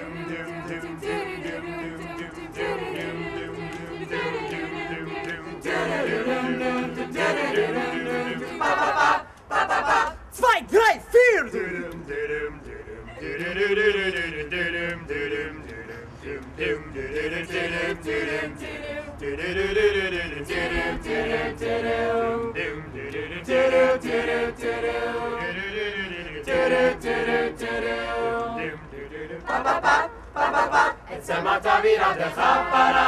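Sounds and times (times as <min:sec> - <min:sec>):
group singing a cappella: 0:00.0 - 0:10.3, 0:11.5 - 0:33.0.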